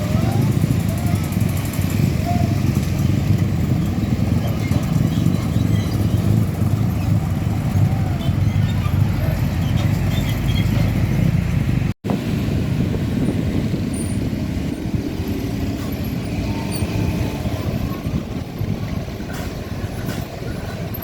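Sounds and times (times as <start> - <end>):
trucks passing on road: 0.0 - 21.0.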